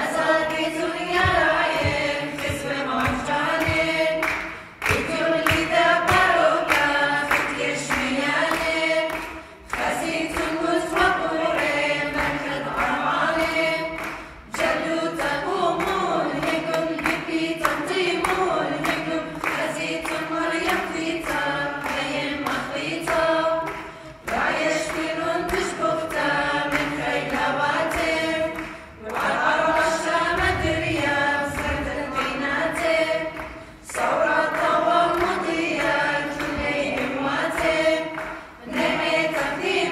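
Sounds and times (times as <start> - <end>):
choir singing a hymn a cappella: 0.0 - 39.9.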